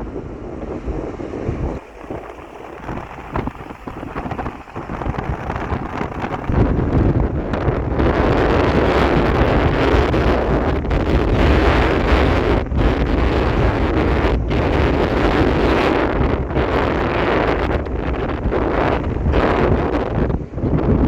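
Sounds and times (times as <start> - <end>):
wind blowing on microphone: 0.0 - 21.0.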